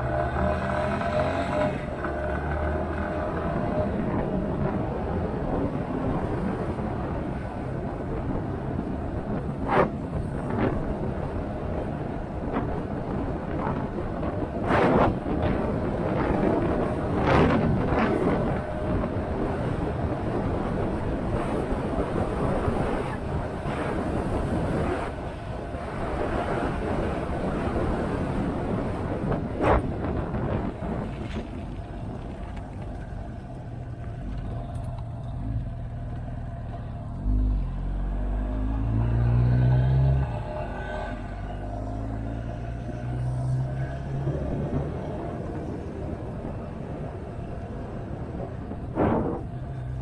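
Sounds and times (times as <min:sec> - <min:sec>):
wind noise on microphone: 0:00.0 - 0:36.0, 0:37.0 - 0:50.0
motorcycle engine rumble: 0:00.0 - 0:50.0
road noise: 0:00.0 - 0:50.0.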